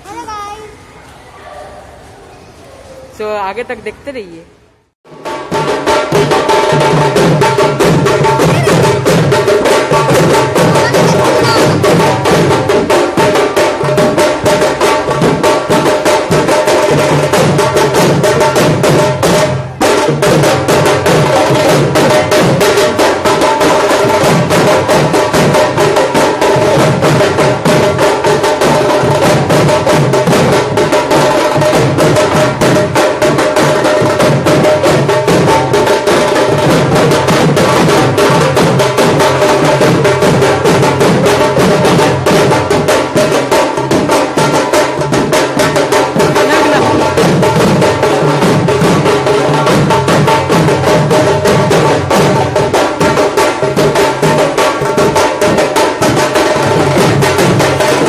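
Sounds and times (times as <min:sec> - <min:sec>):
music with fast drumming: 0:05.1 - 0:58.0.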